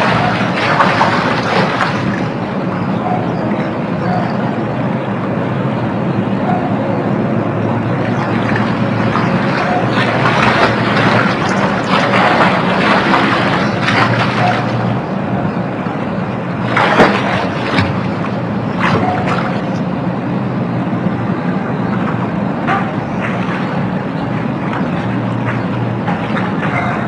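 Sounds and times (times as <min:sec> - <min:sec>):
water splashing in a pool: 0:00.0 - 0:04.7, 0:07.5 - 0:27.0
steady low hum: 0:00.0 - 0:27.0.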